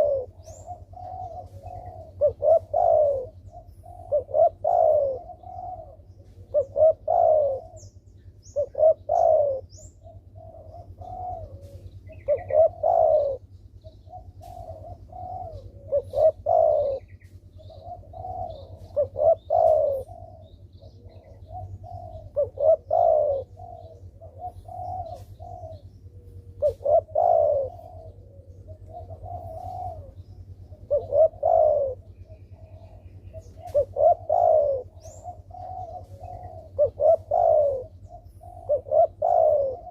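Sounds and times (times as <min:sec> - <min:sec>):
dove cooing: 0:00.0 - 0:39.9
steady low hum: 0:00.0 - 0:39.9.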